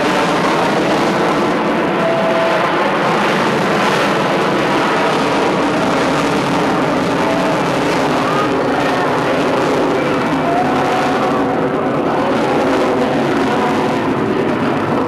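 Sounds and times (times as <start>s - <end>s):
loud jet noise overhead: 0.0s - 15.0s.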